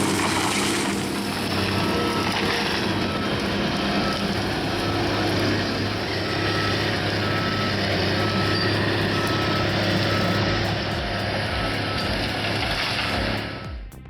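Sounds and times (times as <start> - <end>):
heavy machine engine running: 0.0 - 14.0
reversing alarm beeping: 0.0 - 14.0.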